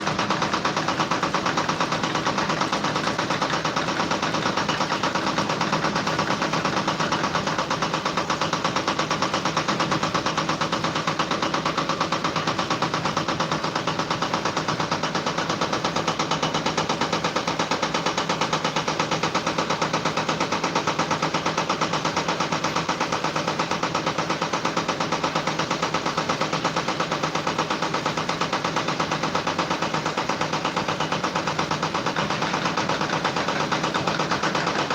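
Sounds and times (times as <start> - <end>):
machine pulsing rapidly: 0.0 - 34.9.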